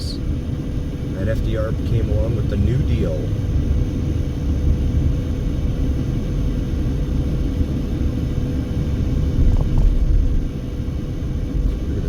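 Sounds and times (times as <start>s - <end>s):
car road and engine rumble: 0.0s - 12.0s
faint hum: 0.0s - 12.0s.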